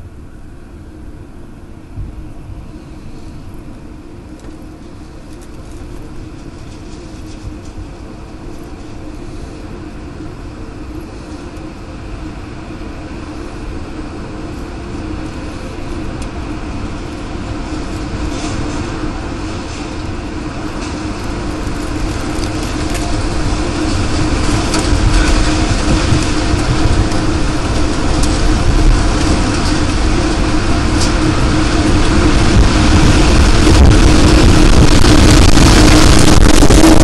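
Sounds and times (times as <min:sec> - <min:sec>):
tornado wind roar: 0:00.0 - 0:37.0.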